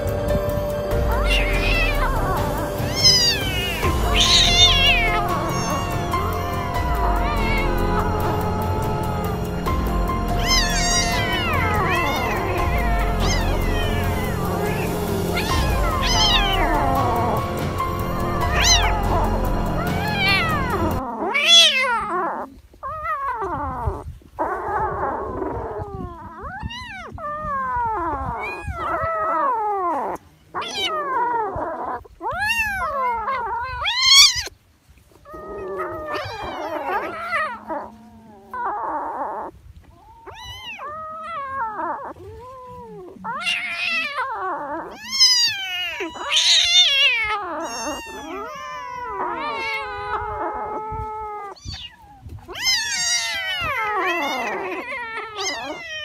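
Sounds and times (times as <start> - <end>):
cats and kittens meowing: 0.0 - 56.0.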